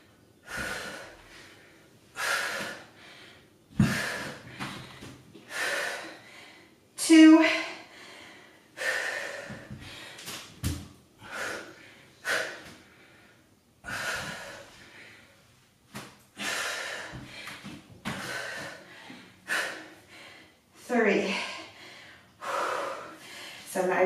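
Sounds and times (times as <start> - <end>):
woman breathing hard: 0.0 - 10.5, 11.2 - 15.5, 16.3 - 23.7.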